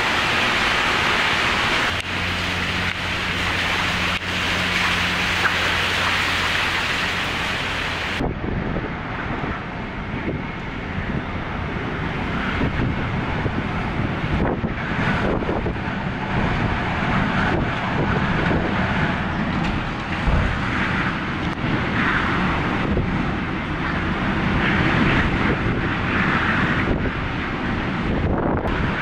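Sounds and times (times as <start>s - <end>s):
strong wind gusting: 0.0s - 29.0s
wind buffeting microphone: 0.0s - 29.0s.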